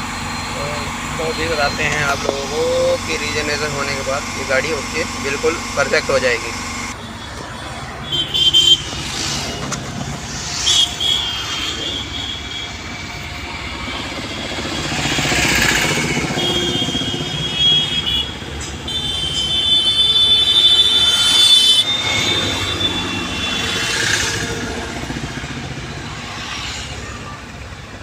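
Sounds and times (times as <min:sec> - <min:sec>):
high-pitched squealing tones: 0:00.0 - 0:18.0, 0:18.6 - 0:27.7
diesel engine running: 0:00.0 - 0:28.0.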